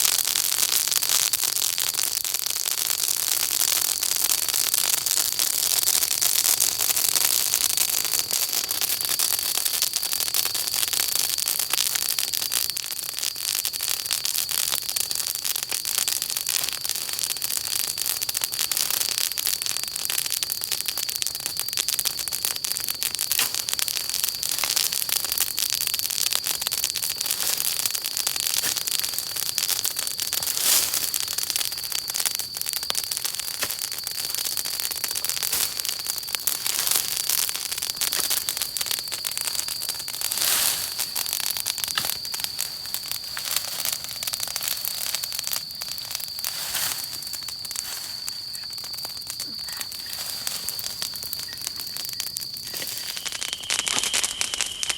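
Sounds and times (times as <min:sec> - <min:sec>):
campfire crackling and popping: 0:00.0 - 0:54.9
high-pitched hiss: 0:04.0 - 0:54.9.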